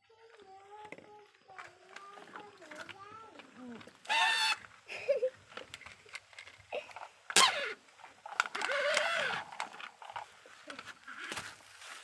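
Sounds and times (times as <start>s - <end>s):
toy cars clicking on wood: 0.2s - 4.6s, 5.5s - 11.5s.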